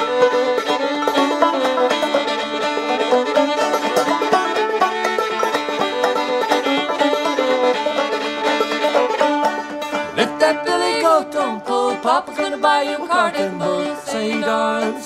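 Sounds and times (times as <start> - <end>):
banjo picking: 0.0 - 15.0
fiddle: 0.0 - 15.0.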